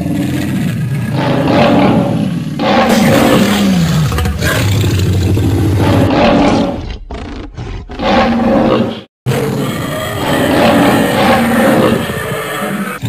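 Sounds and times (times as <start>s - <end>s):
cartoon lion roaring: 0.0s - 13.0s.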